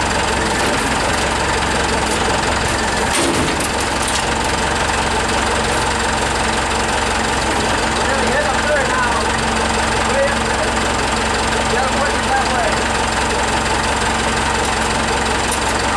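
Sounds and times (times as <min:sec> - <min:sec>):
forklift engine idling: 0:00.0 - 0:15.9.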